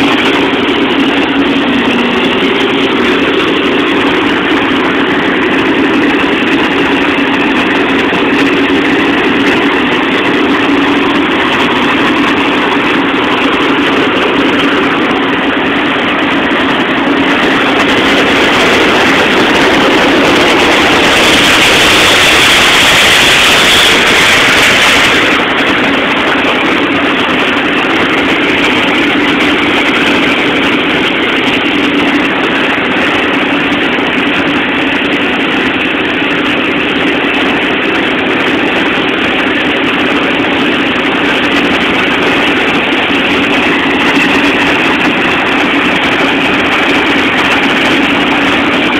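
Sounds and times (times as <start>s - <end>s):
engine running loudly: 0.0s - 48.9s.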